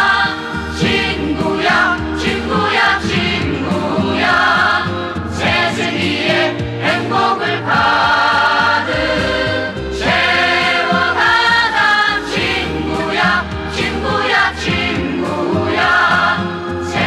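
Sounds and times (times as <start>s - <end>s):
voices singing trot song: 0.0s - 17.0s.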